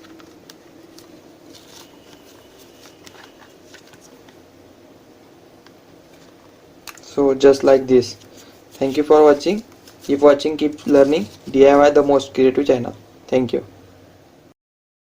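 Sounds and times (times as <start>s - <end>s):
low room hiss: 0.0s - 14.6s.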